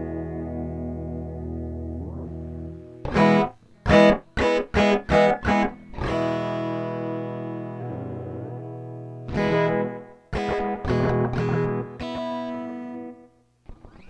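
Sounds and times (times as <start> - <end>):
electric guitar chords with delay: 0.0 - 14.0.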